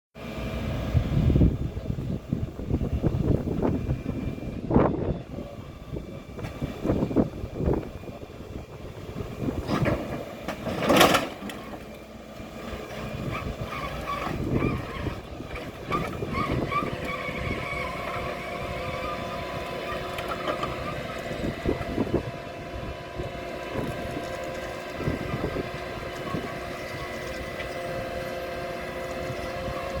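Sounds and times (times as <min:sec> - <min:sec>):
vehicle engine: 0:00.2 - 0:30.0.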